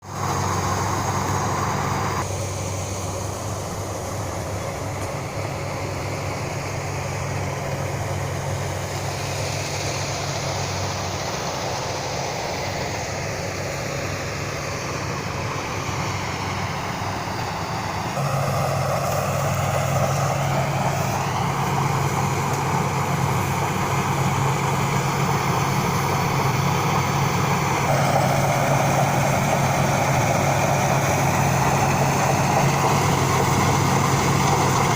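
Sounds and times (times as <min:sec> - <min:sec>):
combine harvester engine running: 0:00.0 - 0:34.9.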